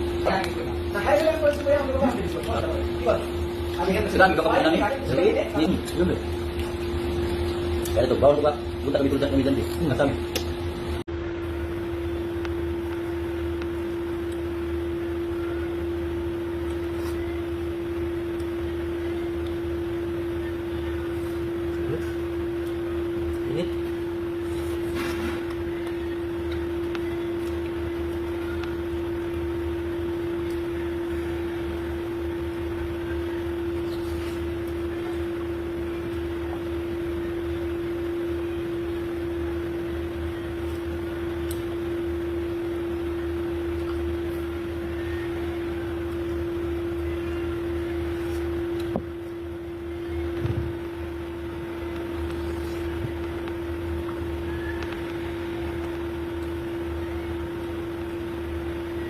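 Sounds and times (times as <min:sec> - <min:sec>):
machine hum with pitched tone: 0:00.0 - 0:59.0.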